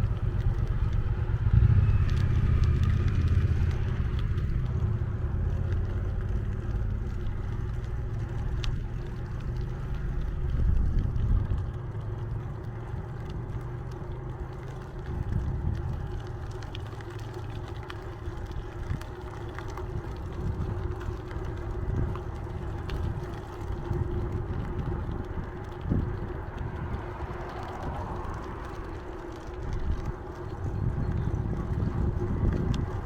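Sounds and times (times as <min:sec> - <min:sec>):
wind on microphone: 0:00.0 - 0:07.6, 0:08.7 - 0:11.8, 0:14.9 - 0:16.8, 0:18.2 - 0:33.0
bicycle tyre and road noise: 0:00.0 - 0:33.0.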